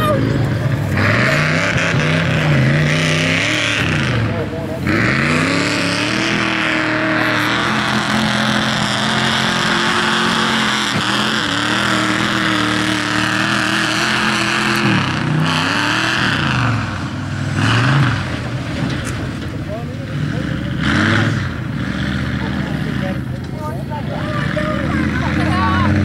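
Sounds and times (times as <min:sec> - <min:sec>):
truck engine revving: 0:00.0 - 0:26.0
tyres spinning through mud: 0:00.0 - 0:26.0.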